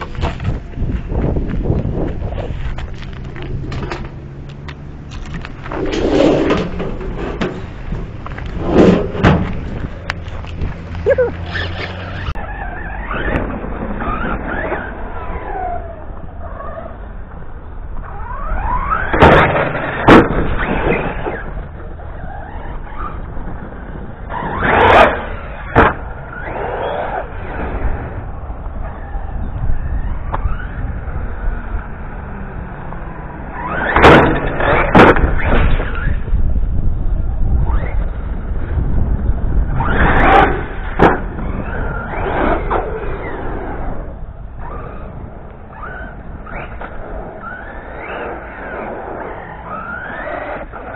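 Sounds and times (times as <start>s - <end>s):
chassis and tyres rattling: 0.0s - 50.9s
rc truck rushing past: 0.0s - 50.9s
wind on microphone: 0.0s - 50.9s.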